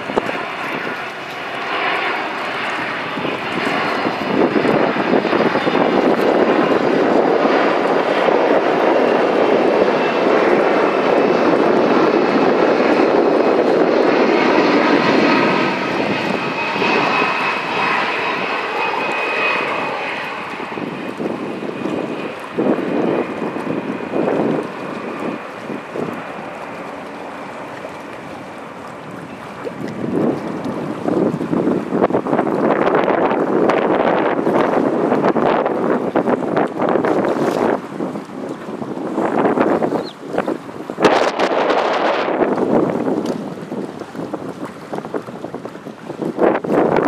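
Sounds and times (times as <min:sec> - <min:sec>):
jet airliner engines: 0:00.0 - 0:47.0.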